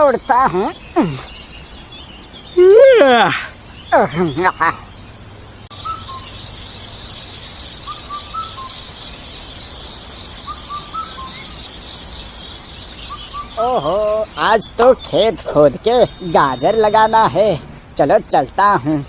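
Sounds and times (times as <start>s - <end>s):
insect trilling: 0.0s - 5.0s, 5.7s - 19.0s
bird chirps: 0.0s - 19.0s.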